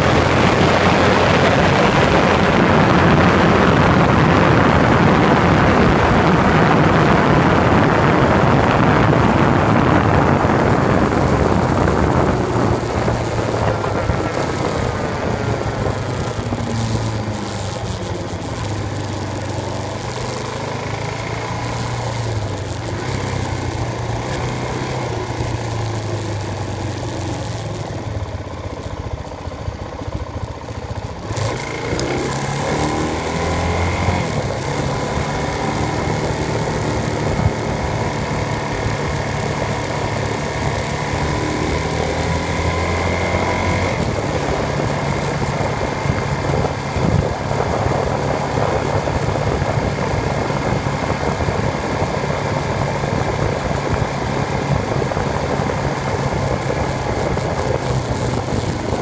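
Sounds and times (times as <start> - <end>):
motorcycle engine hum: 0.0 - 59.0
wind rushing over microphone: 0.0 - 59.0.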